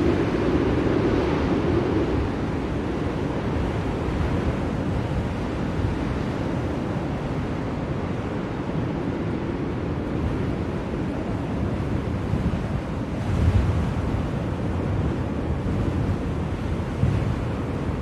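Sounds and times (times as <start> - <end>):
blizzard wind blowing: 0.0 - 18.0.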